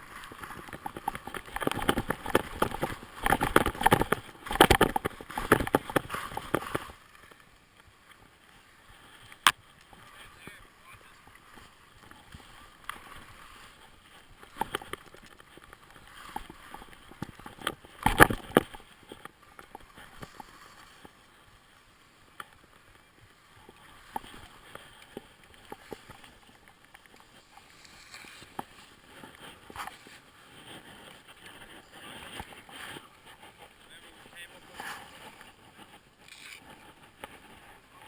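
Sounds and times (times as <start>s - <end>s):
skis sliding over packed snow: 0.0s - 38.0s.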